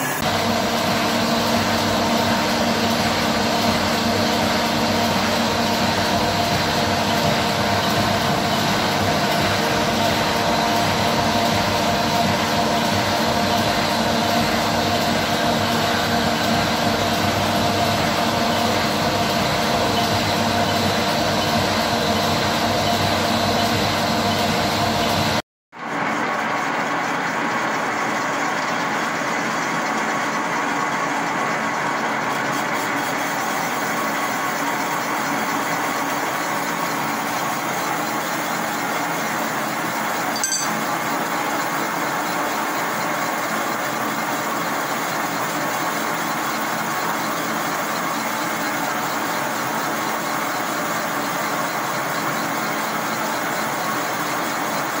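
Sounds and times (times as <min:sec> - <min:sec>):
boring machine running: 0:00.0 - 0:25.4, 0:26.0 - 0:55.0.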